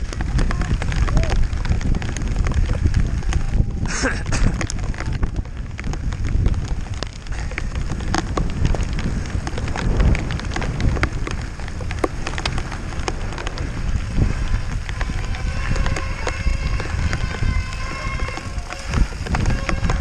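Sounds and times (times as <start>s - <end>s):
bike clicks and rattles: 0.0s - 20.0s
tyres crunching over loose stones: 0.0s - 20.0s
wind rumbling on microphone: 0.0s - 20.0s.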